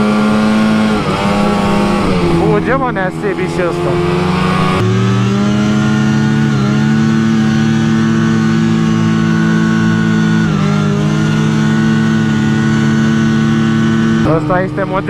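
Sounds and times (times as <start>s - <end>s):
snowmobile engine at high revs: 0.0s - 15.0s.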